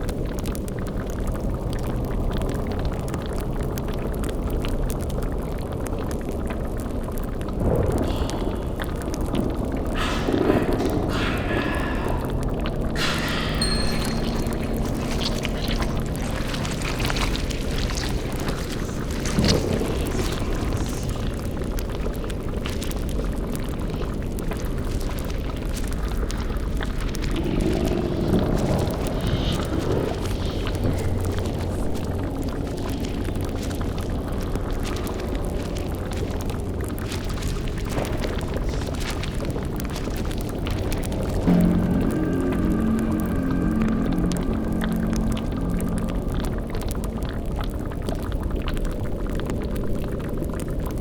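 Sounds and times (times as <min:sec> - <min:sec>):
boiling cauldron bubbling: 0:00.0 - 0:51.0
low rumble: 0:00.0 - 0:51.0.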